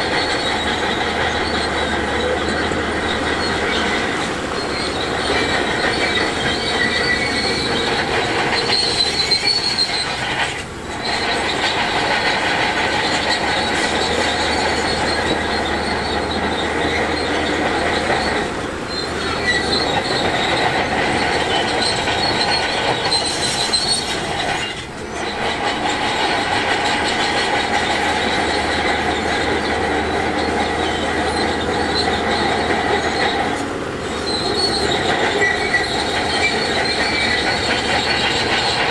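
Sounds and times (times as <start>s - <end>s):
diesel engine under load: 0.0s - 38.9s
high-pitched metallic squeal: 0.0s - 38.9s.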